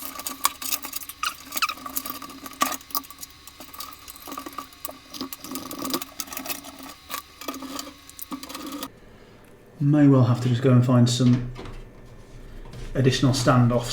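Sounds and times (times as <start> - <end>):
steady hum: 0.0 - 13.9.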